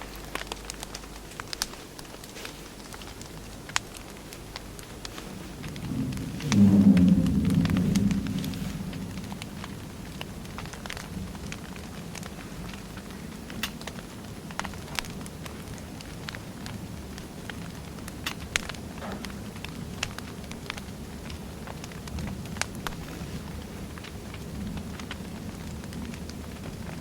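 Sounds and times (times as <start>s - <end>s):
burning logs crackling and popping: 0.0s - 27.0s
low rush of flame: 4.6s - 26.8s.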